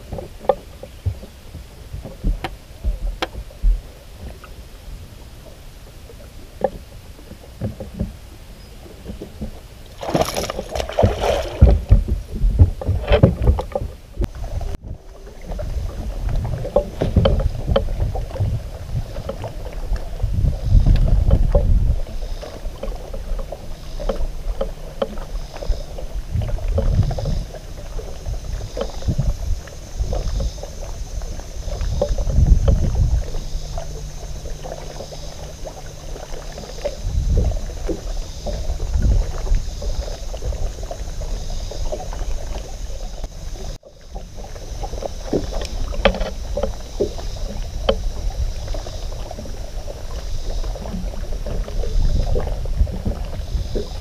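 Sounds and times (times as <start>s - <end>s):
waves lapping against hull: 0.0s - 54.0s
wind rumbling on microphone: 0.0s - 54.0s.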